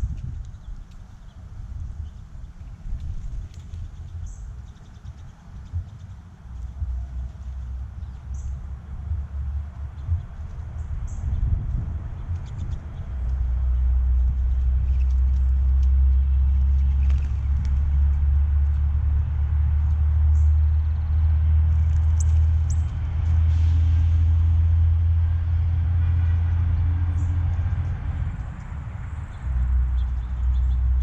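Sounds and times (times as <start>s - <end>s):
low rumble: 0.0s - 31.0s.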